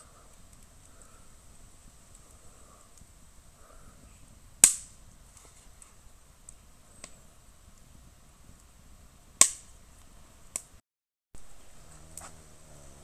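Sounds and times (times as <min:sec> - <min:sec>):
firewood cracking: 0:00.0 - 0:10.8.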